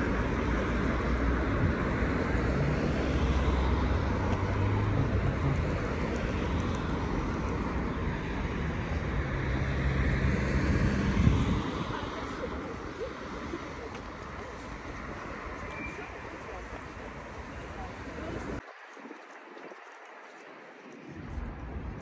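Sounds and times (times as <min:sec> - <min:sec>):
cars driving: 0:00.0 - 0:18.6
vehicles passing: 0:00.0 - 0:18.9.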